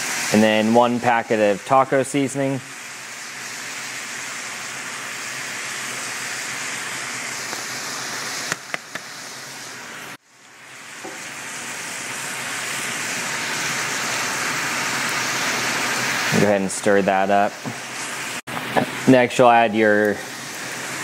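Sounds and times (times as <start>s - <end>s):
food sizzling in a skillet: 0.0s - 21.0s.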